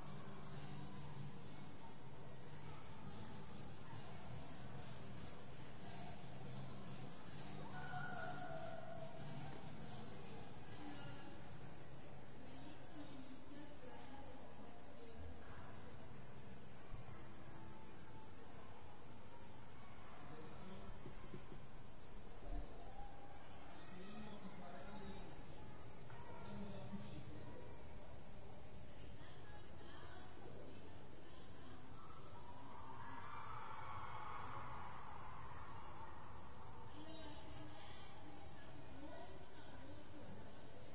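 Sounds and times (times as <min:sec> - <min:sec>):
crickets chirping: 0:00.0 - 0:40.9
faint indistinct sounds: 0:00.0 - 0:40.9.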